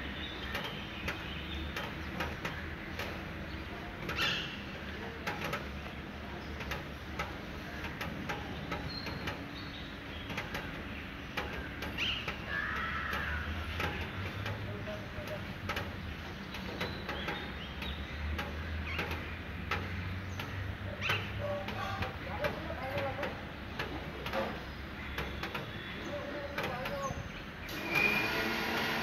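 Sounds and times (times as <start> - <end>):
city background hum: 0.0 - 29.0.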